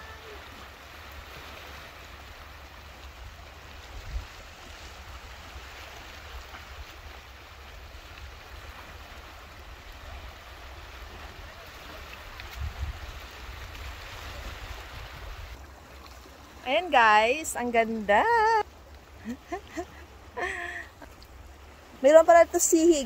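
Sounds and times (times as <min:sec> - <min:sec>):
waves lapping against rocks: 0:00.0 - 0:23.0.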